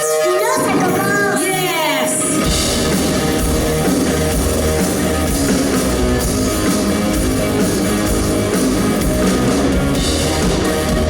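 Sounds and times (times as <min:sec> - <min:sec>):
drum kit: 0:00.0 - 0:11.0
electric guitar: 0:00.0 - 0:11.0.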